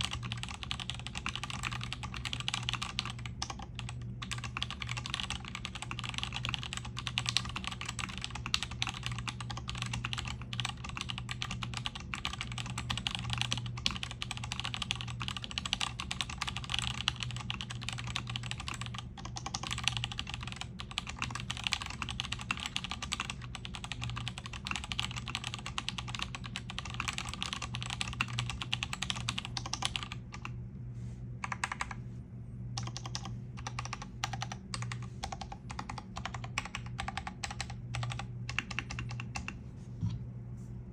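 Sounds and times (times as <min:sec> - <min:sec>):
fast typing on mechanical keyboard: 0:00.0 - 0:30.5, 0:31.4 - 0:32.0, 0:32.8 - 0:39.6.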